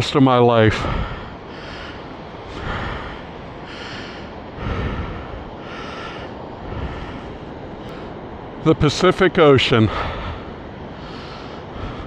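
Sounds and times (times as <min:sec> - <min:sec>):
man breathing: 0:00.7 - 0:08.3, 0:09.9 - 0:12.0.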